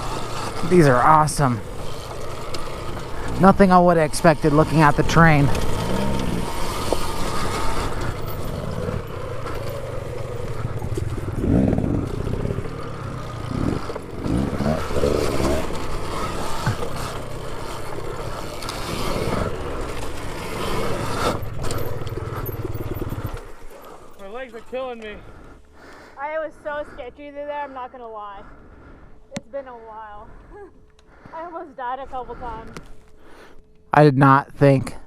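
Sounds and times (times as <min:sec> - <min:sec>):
dirt bike engine running: 0:00.0 - 0:28.6.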